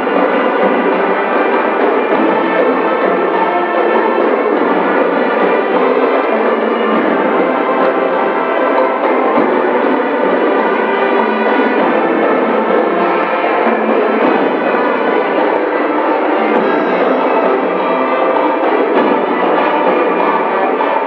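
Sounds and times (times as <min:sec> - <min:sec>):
marching band brass and drums: 0:00.0 - 0:21.0.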